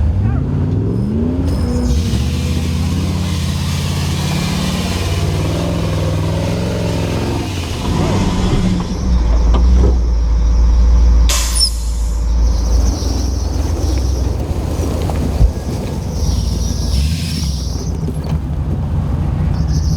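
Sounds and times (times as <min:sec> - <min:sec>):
engine running under load: 0:00.0 - 0:19.9
heavy deep rumble: 0:00.0 - 0:19.9.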